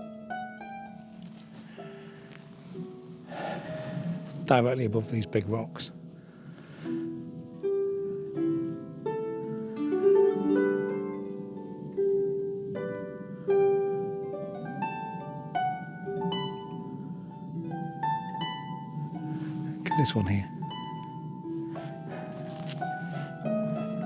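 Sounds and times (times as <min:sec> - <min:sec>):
harp melody: 0:00.0 - 0:24.0.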